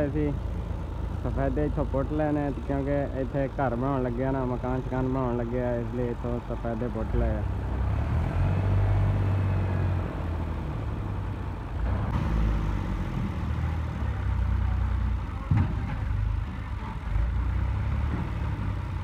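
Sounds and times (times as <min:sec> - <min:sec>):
tractor engine under load: 0:00.0 - 0:19.0.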